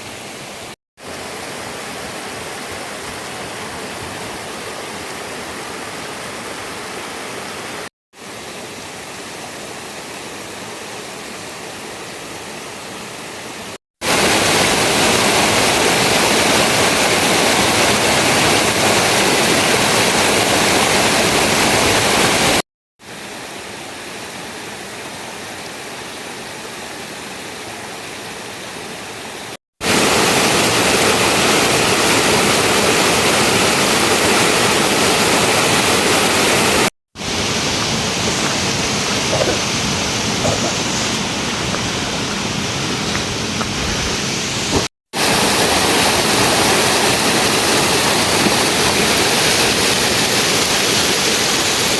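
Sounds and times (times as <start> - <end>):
rushing water: 0.0 - 51.9.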